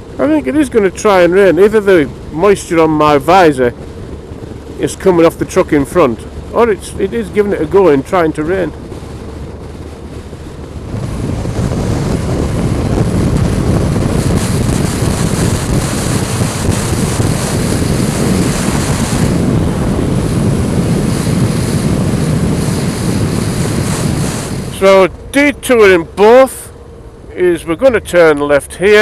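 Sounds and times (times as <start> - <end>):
motorcycle engine: 0.0 - 27.3
road noise: 0.0 - 29.0
wind rushing over helmet: 1.5 - 25.4.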